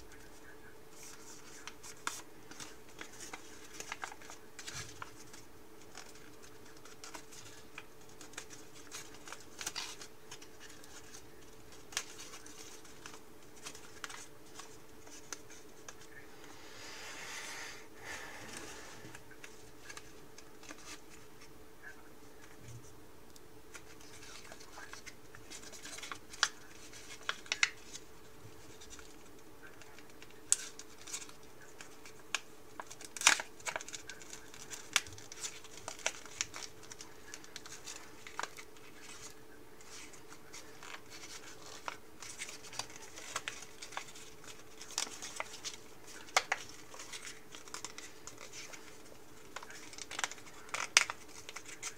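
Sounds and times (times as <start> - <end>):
paper crackling and rustling: 0.0 - 16.3, 18.1 - 22.9, 23.7 - 51.9.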